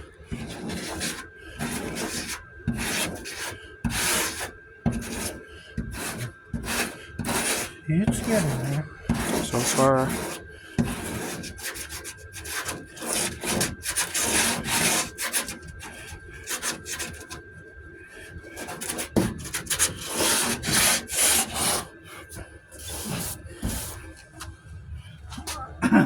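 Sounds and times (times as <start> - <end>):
hand sanding rasping strokes: 0.4 - 17.4, 18.4 - 24.2.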